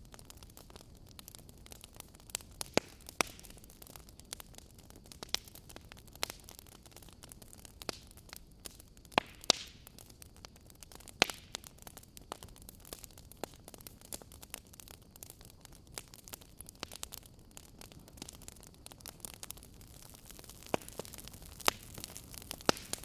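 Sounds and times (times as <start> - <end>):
loud snaps of fire: 0.0 - 23.0
wood fire crackling: 0.0 - 23.0.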